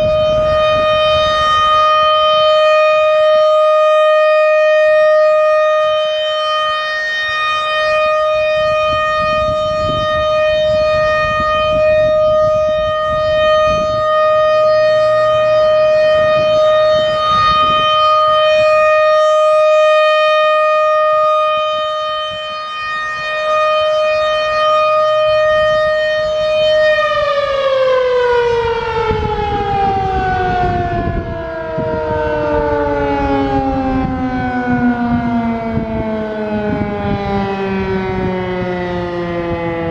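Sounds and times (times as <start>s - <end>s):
rotating warning siren: 0.0s - 39.9s
second siren tone falling: 0.0s - 39.9s.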